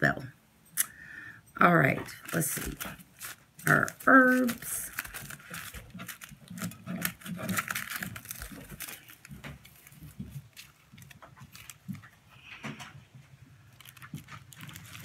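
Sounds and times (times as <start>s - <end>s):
paper packaging rustling: 1.6s - 12.9s, 13.5s - 15.0s.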